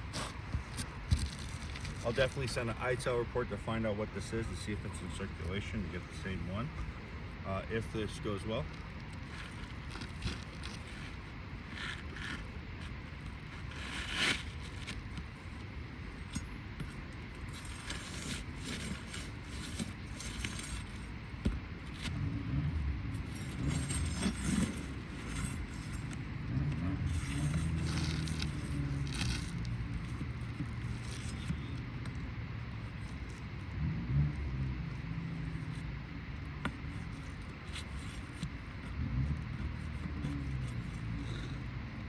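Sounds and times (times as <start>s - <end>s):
vehicle engine low hum: 0.0s - 42.0s.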